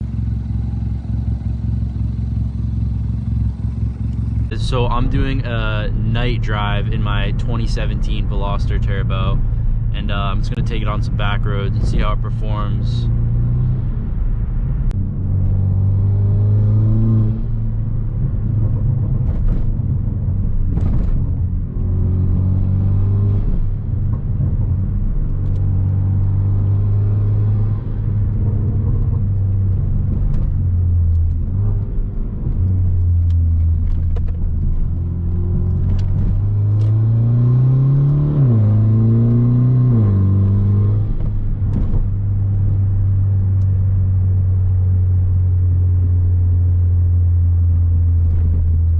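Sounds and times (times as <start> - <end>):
car engine droning: 0.0 - 48.9.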